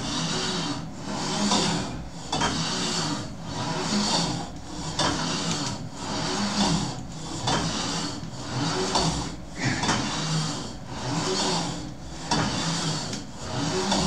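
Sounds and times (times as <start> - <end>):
steel cable rasping over pulleys: 0.0 - 14.0.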